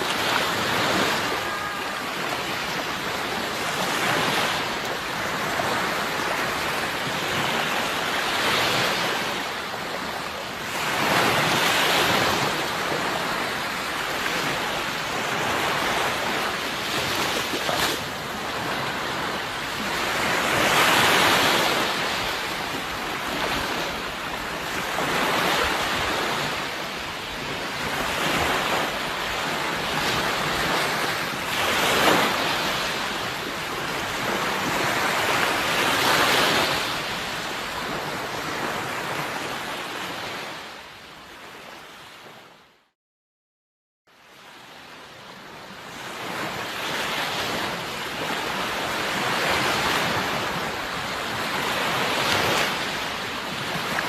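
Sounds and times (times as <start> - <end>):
sea waves breaking on shore: 0.0 - 42.7, 44.1 - 54.0.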